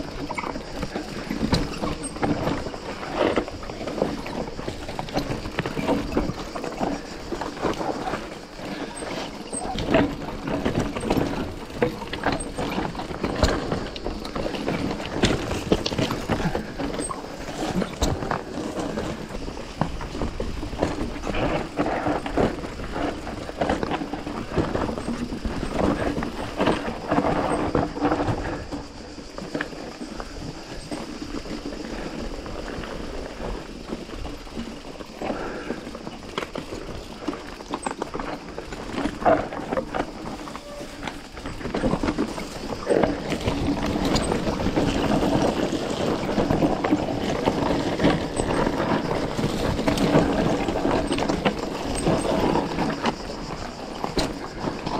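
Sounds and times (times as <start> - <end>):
bike rattling and clattering: 0.0 - 54.9
bike tyres rolling over loose stone: 0.0 - 54.9.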